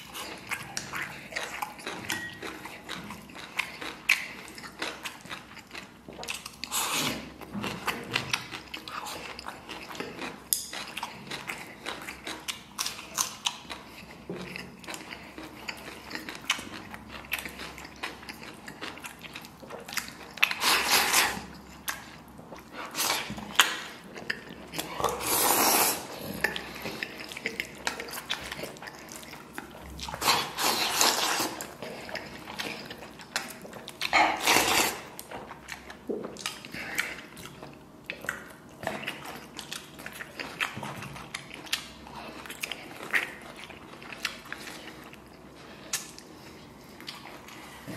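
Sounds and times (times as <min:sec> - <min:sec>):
man chewing and slurping: 0:00.0 - 0:47.9.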